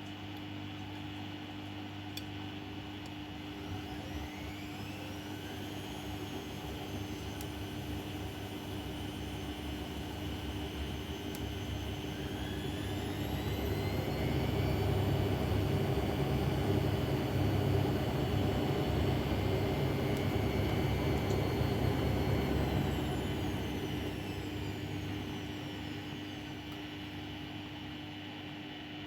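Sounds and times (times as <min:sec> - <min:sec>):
washing machine motor whining: 0:03.3 - 0:27.8.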